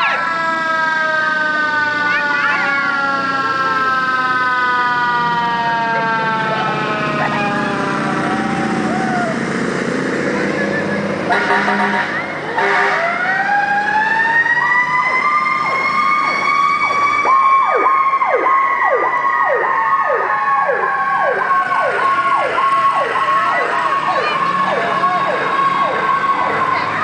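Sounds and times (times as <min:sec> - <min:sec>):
rapid cycling siren: 0:00.0 - 0:09.4, 0:10.9 - 0:27.0
slow wailing siren: 0:00.0 - 0:27.0.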